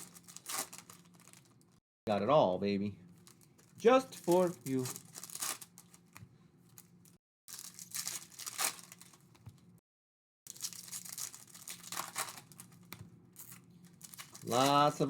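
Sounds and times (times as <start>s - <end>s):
plastic wrapping crinkling: 0.0s - 1.8s, 3.2s - 9.4s, 10.5s - 15.0s.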